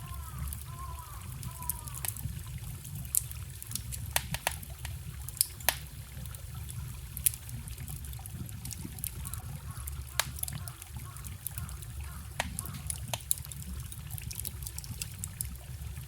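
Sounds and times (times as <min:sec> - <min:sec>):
campfire crackling: 0:00.0 - 0:16.0
forest stream rushing: 0:00.0 - 0:16.0.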